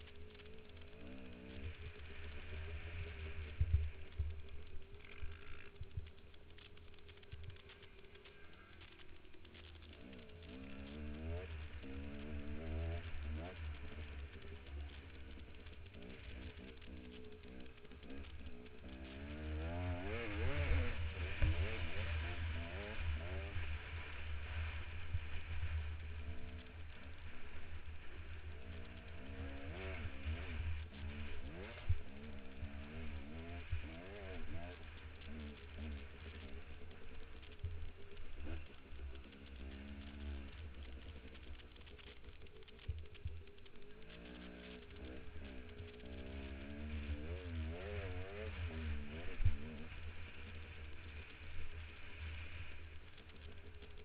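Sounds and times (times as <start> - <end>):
dirt bike engine revving: 0.3 - 7.7, 9.8 - 52.8.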